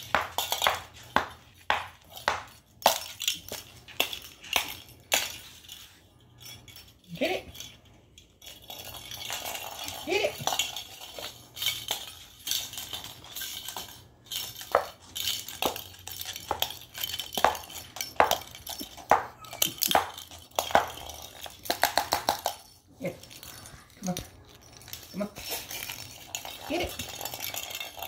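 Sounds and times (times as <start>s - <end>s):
plastic ball toy rattling: 0.0s - 28.0s.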